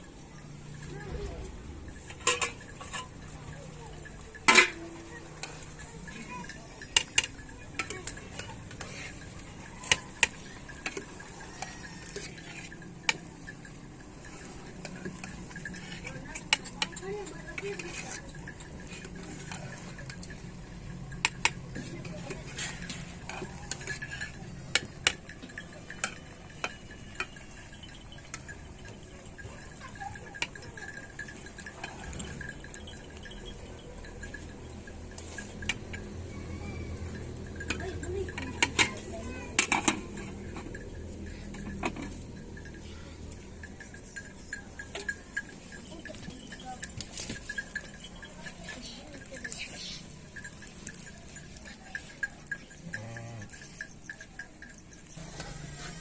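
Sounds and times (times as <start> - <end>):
metal pots and utensils clinking: 0.0 - 56.0.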